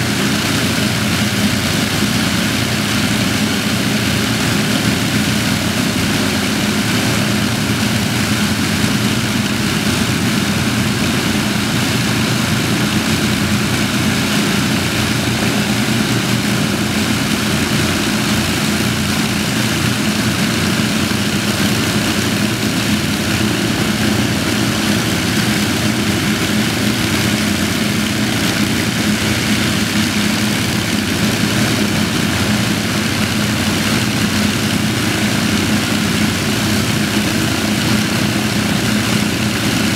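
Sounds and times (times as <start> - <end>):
aircraft engines droning: 0.0 - 39.9.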